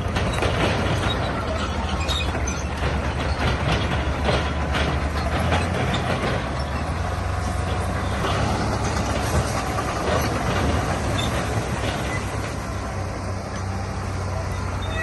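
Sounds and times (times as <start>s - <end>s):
bulldozer diesel engine: 0.0s - 15.0s
metallic clanking and rattling: 0.0s - 15.0s.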